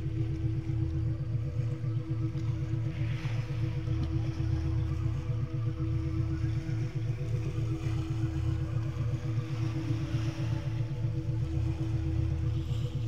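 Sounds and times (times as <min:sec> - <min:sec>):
low pulsing drone tones: 0:00.0 - 0:13.0.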